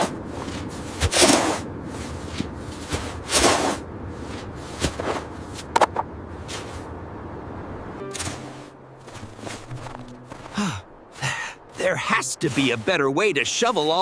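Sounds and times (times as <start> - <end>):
long noisy swishes: 0.0 - 11.9.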